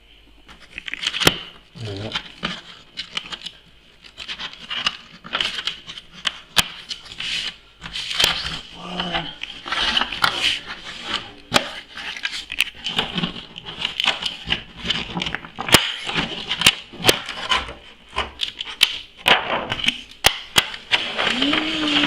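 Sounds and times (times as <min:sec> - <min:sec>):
packaging crackling and rustling: 0:00.5 - 0:22.0.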